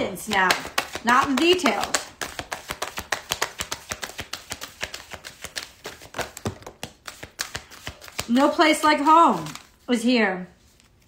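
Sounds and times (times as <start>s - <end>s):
cards being shuffled: 0.2s - 9.9s.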